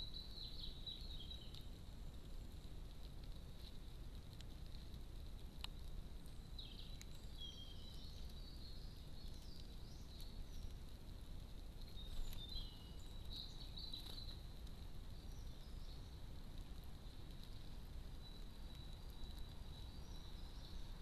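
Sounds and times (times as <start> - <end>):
faint songbird song: 0.0 - 21.0
low outdoor rumble: 0.0 - 21.0.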